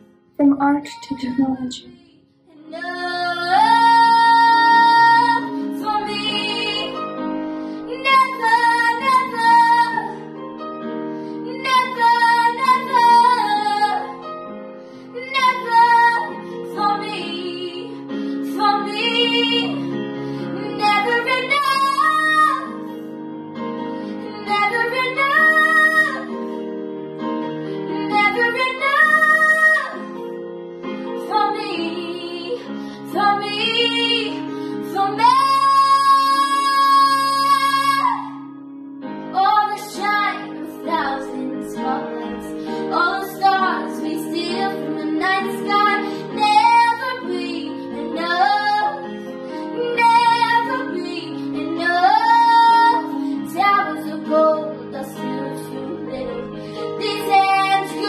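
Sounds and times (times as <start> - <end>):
instrumental backing track: 0.0 - 58.0
girl singing pop ballad: 0.6 - 23.2, 24.0 - 26.6, 27.7 - 58.0.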